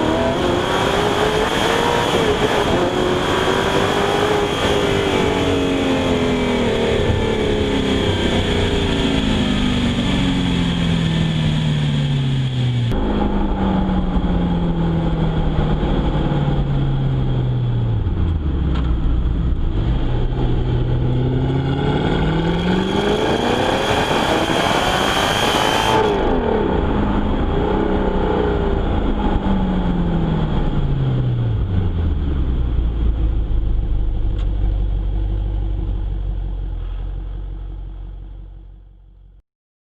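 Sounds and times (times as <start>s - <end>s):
car engine revving and idling: 0.0s - 39.3s.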